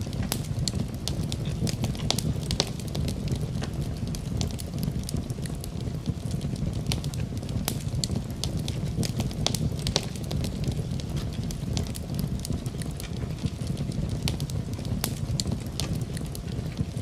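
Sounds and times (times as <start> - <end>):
campfire crackles and pops: 0.0 - 17.0
low rumble of flames: 0.0 - 17.0.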